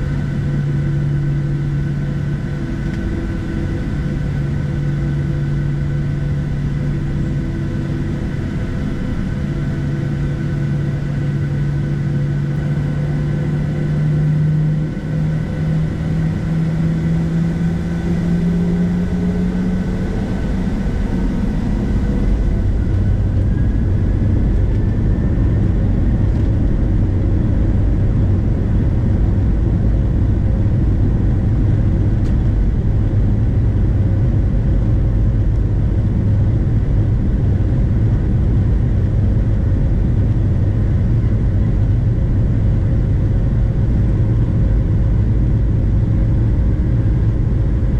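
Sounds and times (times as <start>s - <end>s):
jet engines from inside cabin: 0.0s - 47.9s.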